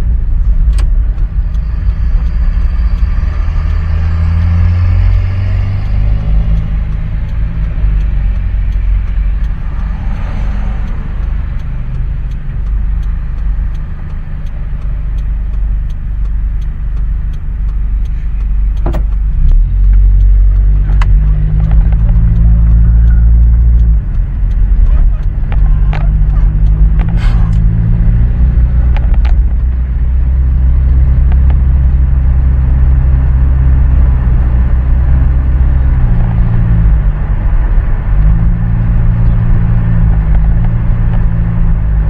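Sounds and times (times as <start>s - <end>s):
vehicle engine rumbling and idling: 0.0s - 42.0s
sharp click: 0.4s - 42.0s.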